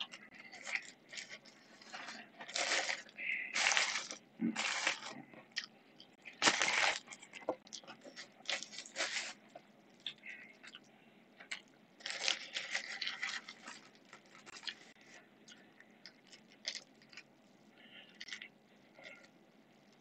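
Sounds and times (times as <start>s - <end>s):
faint rustling and crinkling: 0.0s - 10.8s, 11.4s - 20.0s.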